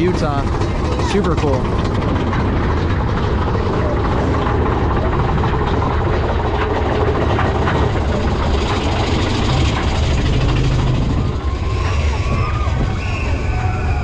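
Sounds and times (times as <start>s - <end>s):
clatter and knocks: 0.0s - 13.0s
roller coaster wheels rumbling on rail: 0.0s - 14.0s.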